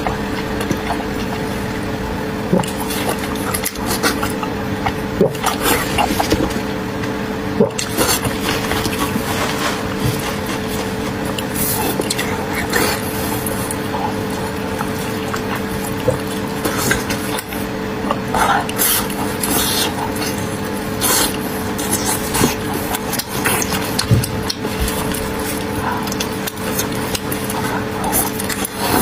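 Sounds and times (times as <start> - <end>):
person chewing with wet smacking: 0.0 - 29.0
steady background hum: 0.0 - 29.0.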